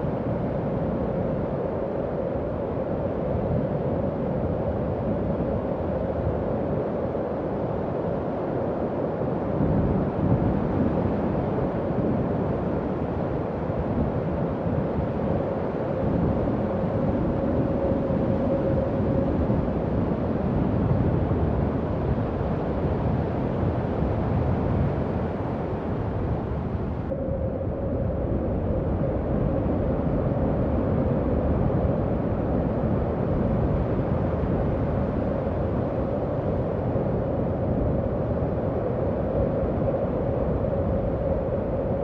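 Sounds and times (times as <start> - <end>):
howling wind: 0.0 - 42.0.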